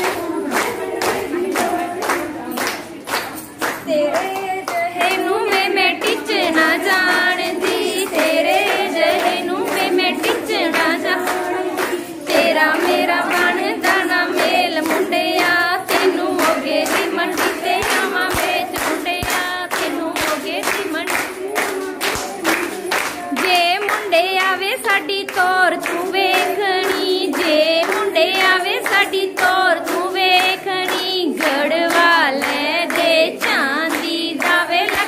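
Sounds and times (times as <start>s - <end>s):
rhythmic hand clapping: 0.0s - 35.0s
women singing folk song: 0.0s - 35.0s.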